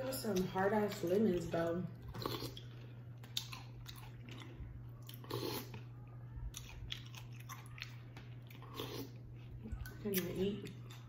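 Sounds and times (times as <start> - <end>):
low hum: 0.0 - 11.0
crunchy chewing: 0.3 - 11.0.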